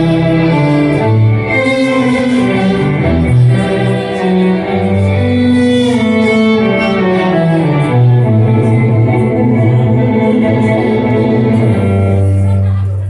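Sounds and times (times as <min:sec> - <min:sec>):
live band instrumental music: 0:00.0 - 0:13.0.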